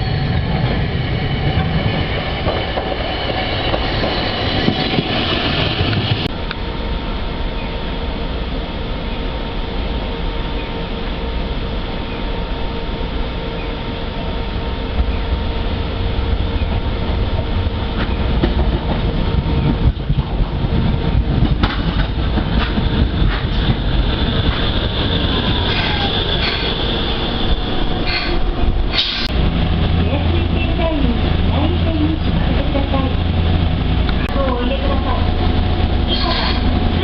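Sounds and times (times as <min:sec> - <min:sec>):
tram motor hum: 0:00.0 - 0:37.0.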